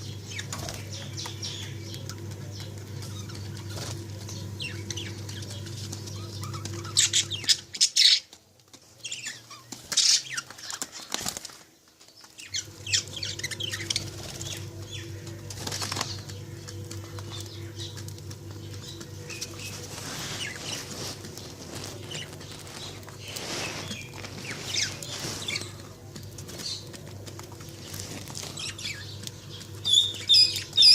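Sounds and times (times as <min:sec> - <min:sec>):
lovebirds chirping: 0:00.0 - 0:30.9
steady low hum: 0:00.0 - 0:30.9
wings fluttering: 0:00.0 - 0:30.9.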